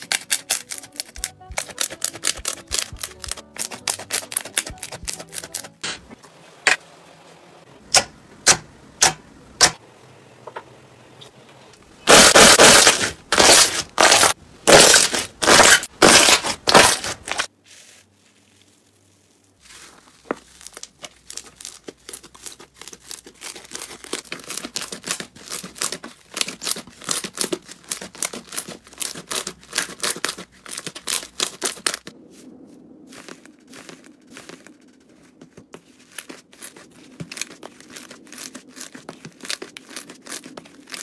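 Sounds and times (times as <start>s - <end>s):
slime crunching squishes: 0.0s - 5.9s, 12.1s - 41.0s.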